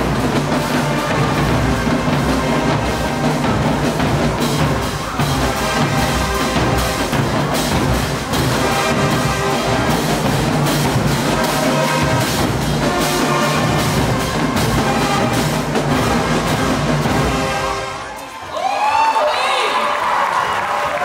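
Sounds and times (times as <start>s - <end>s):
loud brass and drum music: 0.0s - 18.3s.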